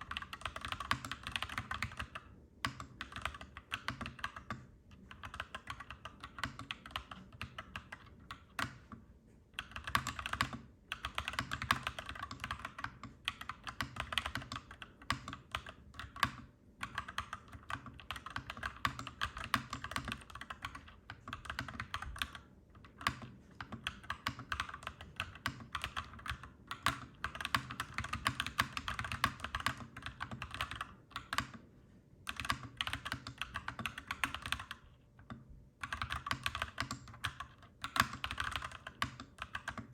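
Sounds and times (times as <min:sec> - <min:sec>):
mechanical keyboard typing: 0:00.0 - 0:09.0, 0:09.6 - 0:31.6, 0:32.2 - 0:39.9.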